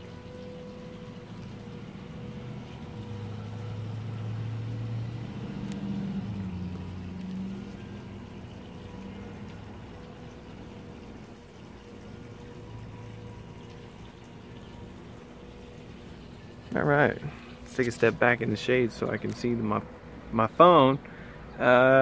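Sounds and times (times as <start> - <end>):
low mechanical motor hum: 0.0 - 22.0.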